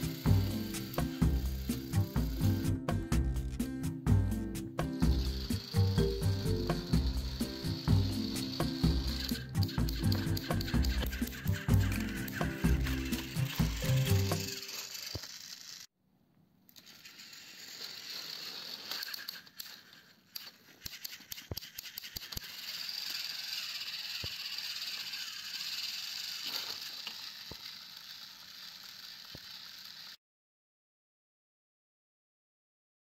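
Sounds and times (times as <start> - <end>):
toy train motors whirring: 0.0 - 15.9, 16.7 - 30.2.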